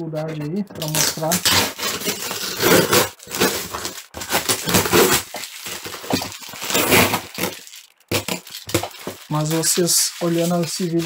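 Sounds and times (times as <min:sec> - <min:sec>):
cardboard being handled: 0:00.8 - 0:11.0
packing tape crackling and tearing: 0:00.8 - 0:11.0.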